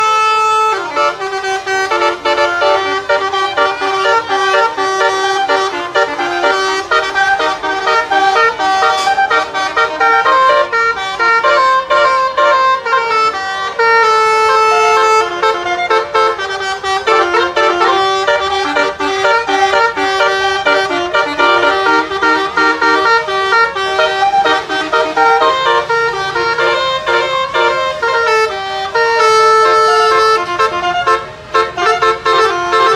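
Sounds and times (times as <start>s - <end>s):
musical air horn melody: 0.0s - 32.9s.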